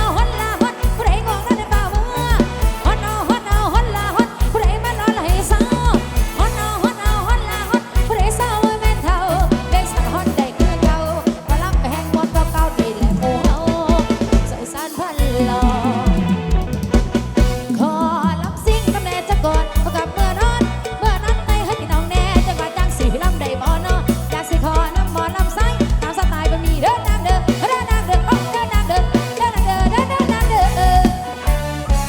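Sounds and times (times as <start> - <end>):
live dance band music: 0.0 - 32.0.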